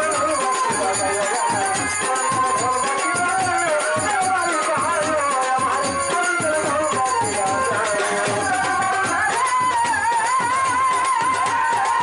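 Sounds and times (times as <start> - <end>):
man singing into a microphone: 0.0 - 12.0
percussion beat: 0.0 - 12.0.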